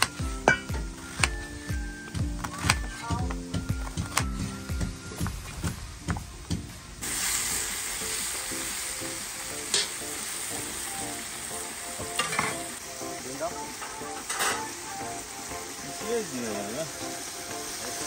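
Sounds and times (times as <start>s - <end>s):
meat sizzling in hot oil: 3.4s - 18.0s.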